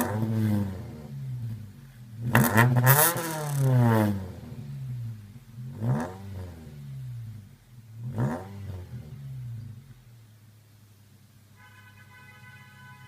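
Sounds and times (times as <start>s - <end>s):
car engine revving and idling: 0.0s - 11.2s.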